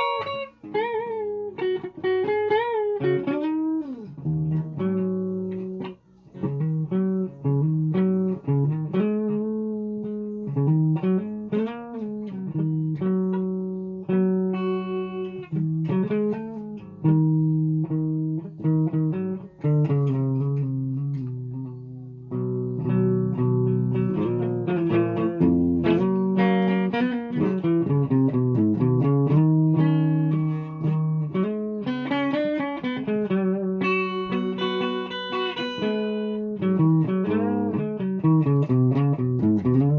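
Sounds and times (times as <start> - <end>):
guitar plucked notes and chords: 0.0 - 39.9.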